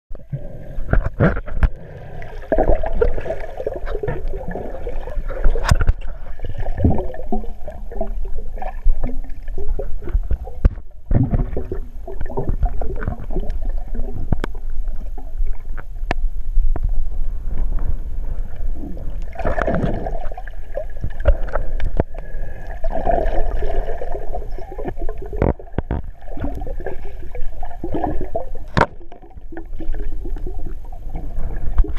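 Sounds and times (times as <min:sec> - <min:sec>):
underwater rumble and gurgling: 0:00.1 - 0:31.9.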